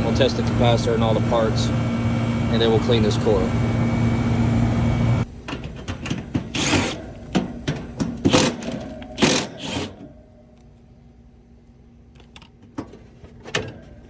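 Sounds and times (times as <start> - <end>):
condenser unit humming: 0.0 - 14.0.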